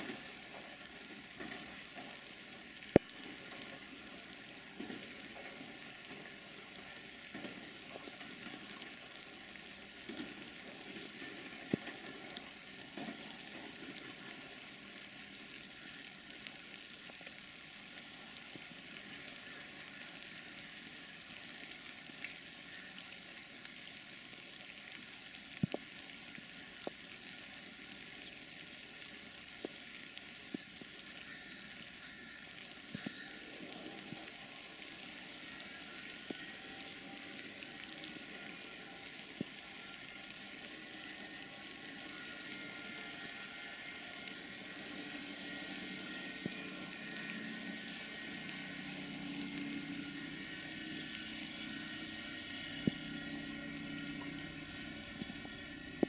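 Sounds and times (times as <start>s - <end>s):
light rain hissing: 0.0s - 56.0s
raindrops ticking: 0.0s - 56.0s.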